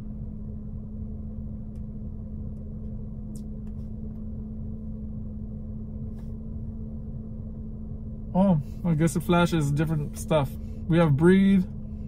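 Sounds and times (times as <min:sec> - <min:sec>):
car cabin rumble and hum: 0:00.0 - 0:12.0.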